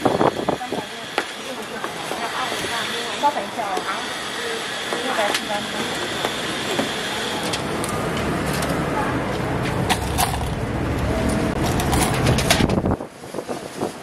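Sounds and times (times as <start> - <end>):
low street rumble: 0.0 - 14.0.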